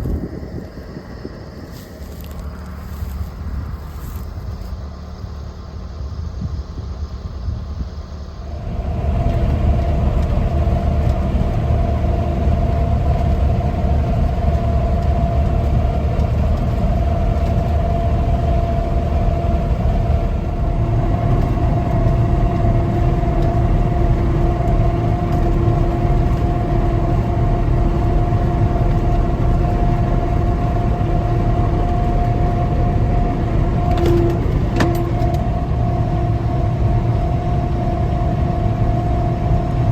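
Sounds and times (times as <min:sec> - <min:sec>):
heavy engine rumbling: 0:00.0 - 0:39.9.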